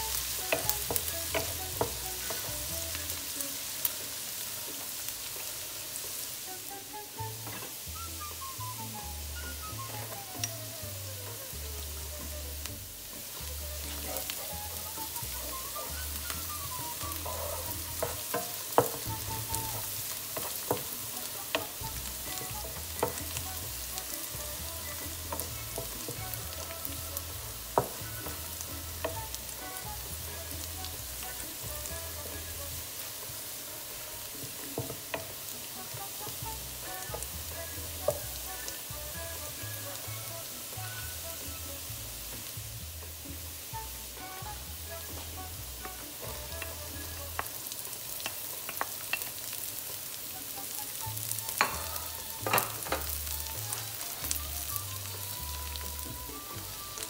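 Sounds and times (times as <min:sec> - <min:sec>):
wooden spatula stirring: 0:00.0 - 0:50.1, 0:50.9 - 0:57.0
garlic sizzling in hot oil: 0:00.0 - 0:57.0.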